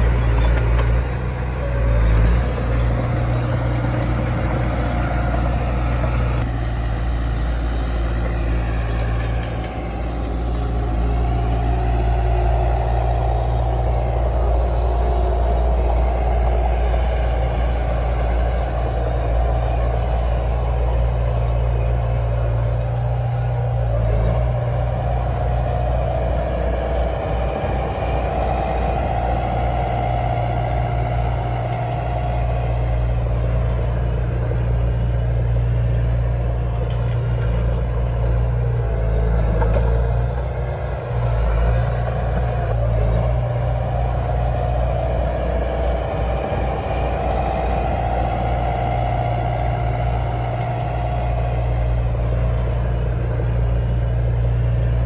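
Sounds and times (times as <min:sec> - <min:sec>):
heavy machinery diesel engine: 0:00.0 - 0:55.0
machine whine: 0:00.0 - 0:55.0.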